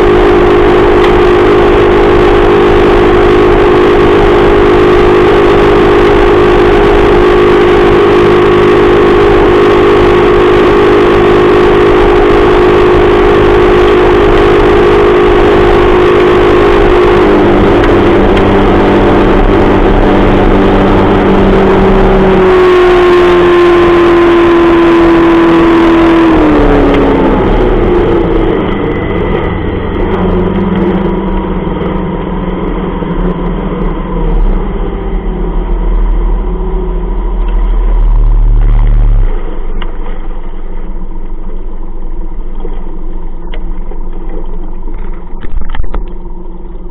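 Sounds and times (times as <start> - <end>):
outboard motor running: 0.0 - 46.9.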